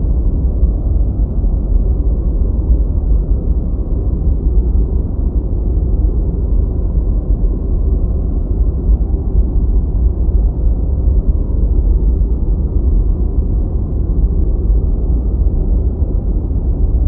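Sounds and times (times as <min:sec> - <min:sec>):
deep rumbling white noise: 0:00.0 - 0:17.0.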